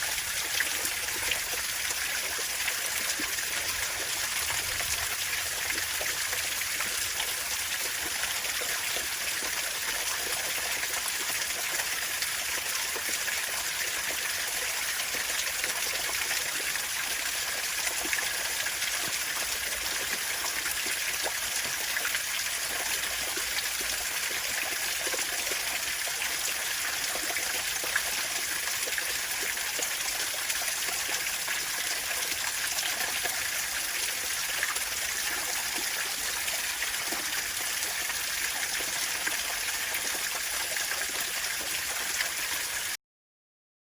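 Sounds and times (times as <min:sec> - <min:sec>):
water falling and trickling: 0:00.0 - 0:43.0.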